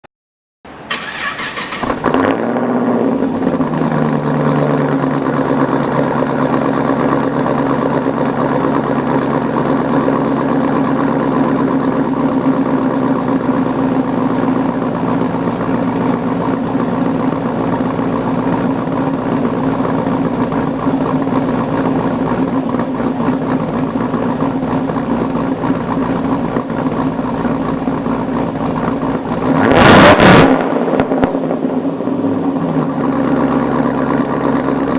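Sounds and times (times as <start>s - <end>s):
car engine starting and idling: 0.7s - 34.9s.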